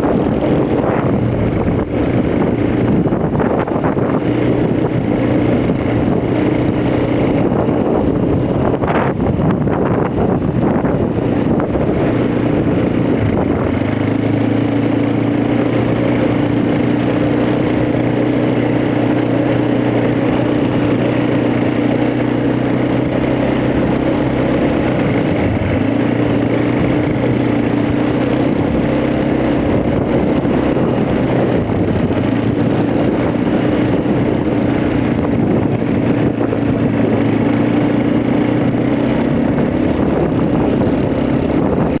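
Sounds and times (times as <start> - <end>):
atv engine running steadily: 0.0 - 42.0.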